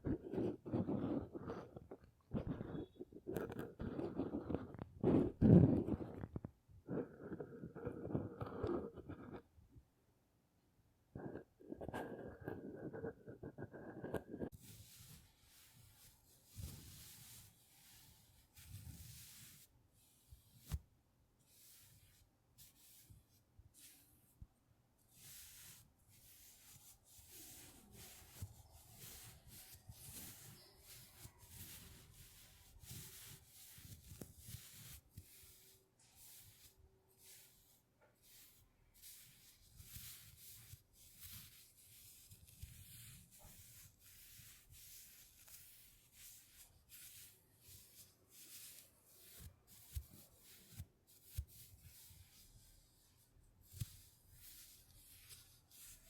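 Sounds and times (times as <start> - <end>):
quiet rubbing strokes on a surface: 0.0 - 6.2, 11.2 - 56.0.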